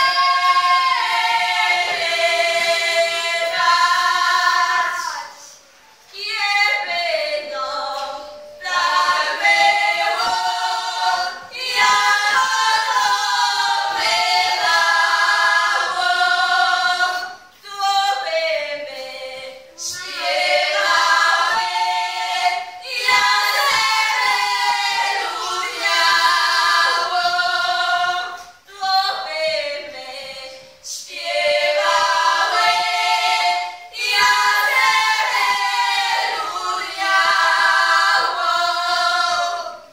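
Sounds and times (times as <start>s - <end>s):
women singing folk song unaccompanied: 0.0s - 39.9s.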